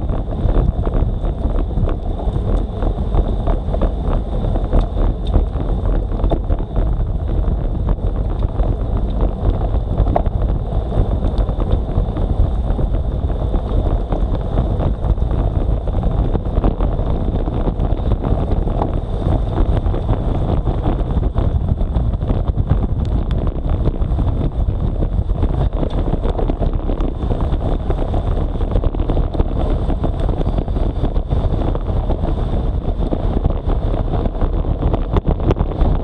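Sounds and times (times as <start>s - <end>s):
tyre noise on wet road: 0.0s - 36.0s
wind buffeting microphone: 0.0s - 36.0s.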